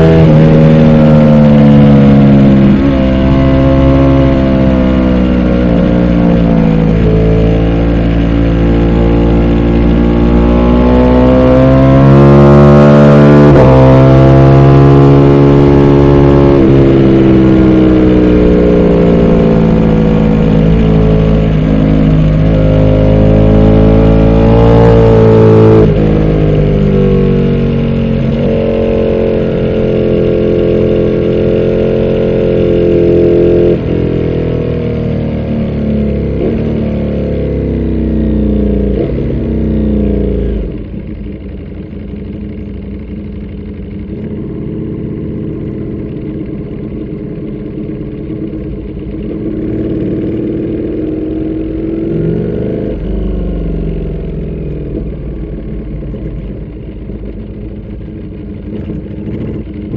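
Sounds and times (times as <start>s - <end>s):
motorcycle engine with gear changes: 0.0s - 59.9s.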